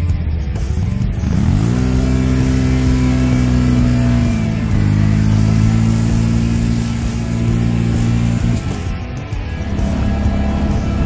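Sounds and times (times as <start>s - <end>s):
quad engine revving: 0.0s - 11.0s.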